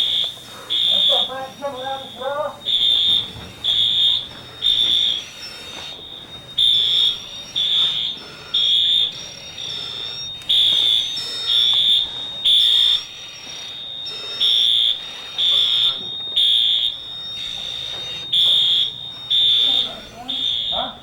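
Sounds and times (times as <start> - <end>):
faint steady tone: 0.0 - 21.0
fire alarm beeping: 0.0 - 21.0.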